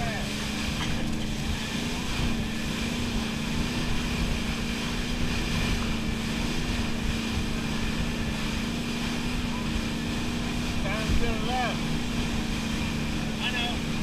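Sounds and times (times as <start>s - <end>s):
boat engine droning: 0.0s - 14.0s
rushing boat wake: 0.0s - 14.0s
wind buffeting microphone: 0.0s - 14.0s.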